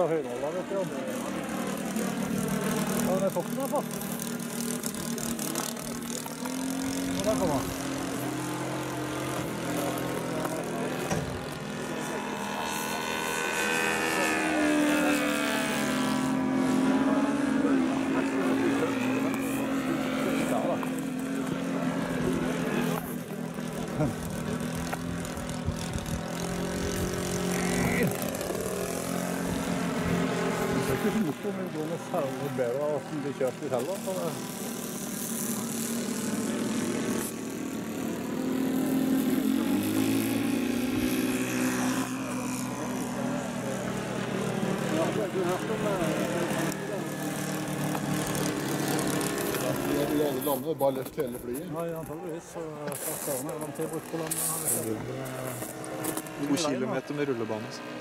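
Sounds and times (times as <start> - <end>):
model airplane engine overhead: 0.0 - 58.0.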